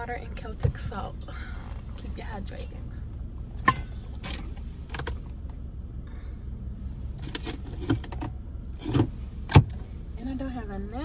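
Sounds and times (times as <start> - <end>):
car low rumble: 0.0 - 11.0.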